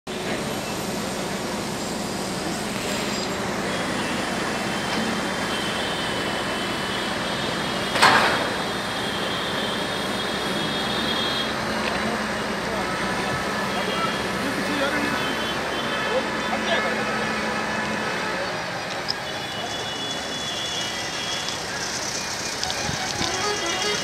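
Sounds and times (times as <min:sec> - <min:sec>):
crane engine running: 0:00.1 - 0:24.0.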